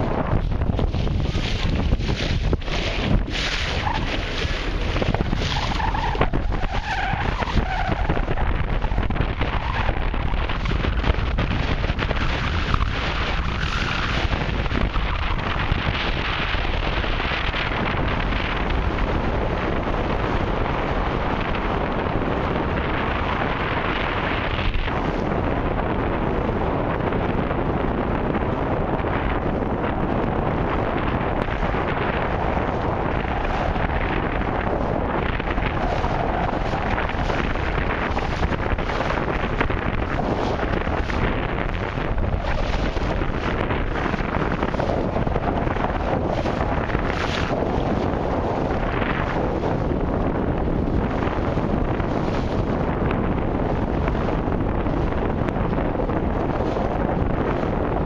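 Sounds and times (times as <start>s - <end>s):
choppy sea water rushing: 0.0s - 58.0s
wind buffeting microphone: 0.0s - 58.0s.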